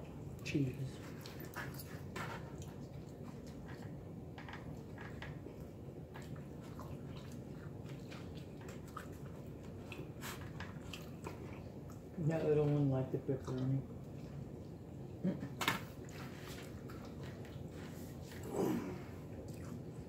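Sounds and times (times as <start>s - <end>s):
faint low hum: 0.0s - 20.0s
person chewing with wet smacks: 0.1s - 12.6s, 13.3s - 15.2s, 16.0s - 20.0s.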